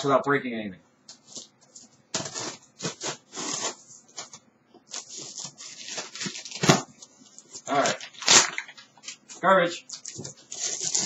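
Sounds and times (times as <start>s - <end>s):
packing tape tearing off cardboard: 1.1s - 11.0s.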